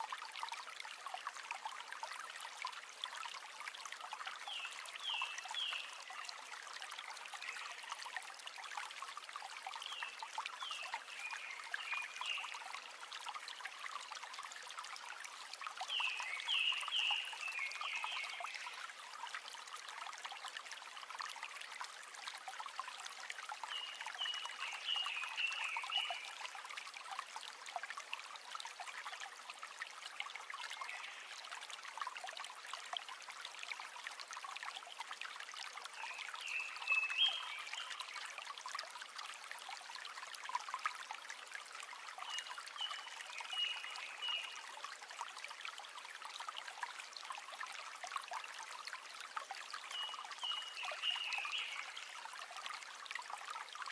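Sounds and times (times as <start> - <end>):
river water trickling: 0.0 - 53.9.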